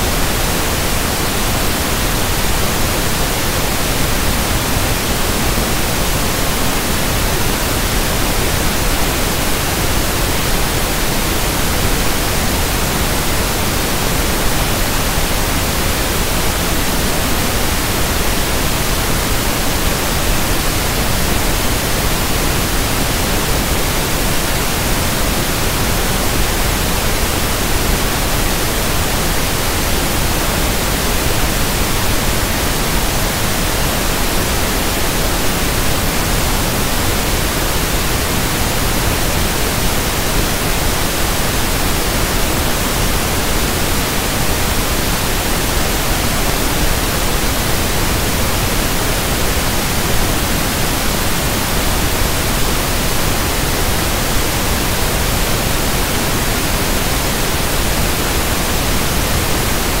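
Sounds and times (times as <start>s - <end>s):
pink noise hiss: 0.0s - 60.0s.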